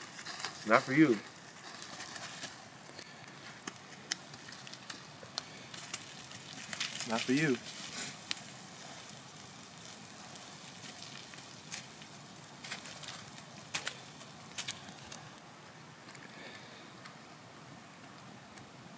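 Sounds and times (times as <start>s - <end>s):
sharp fire pops: 0.0s - 15.2s
campfire crackling: 0.0s - 18.9s.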